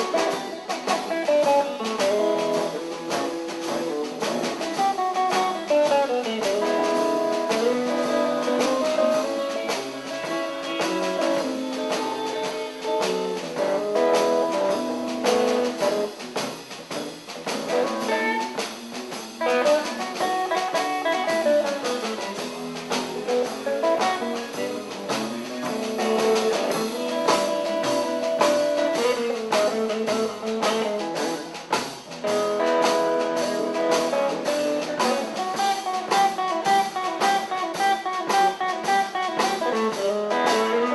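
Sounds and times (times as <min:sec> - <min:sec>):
live blues band with electric guitar: 0:00.0 - 0:40.9.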